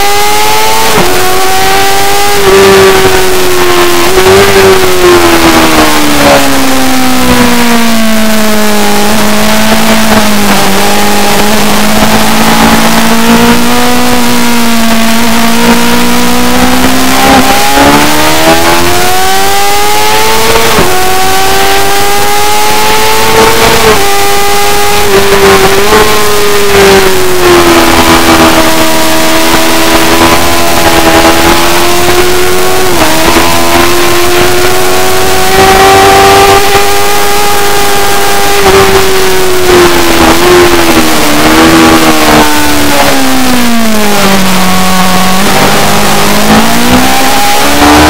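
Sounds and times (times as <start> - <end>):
motorbike engine running hard: 0.0 - 48.0
wind and road noise: 0.0 - 48.0.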